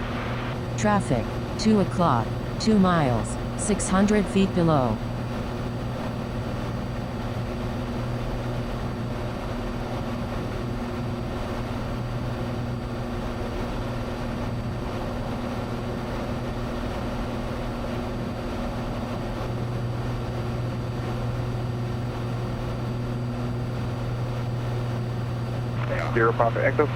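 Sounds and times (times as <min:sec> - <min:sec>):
aircraft engine and propeller drone: 0:00.6 - 0:26.9.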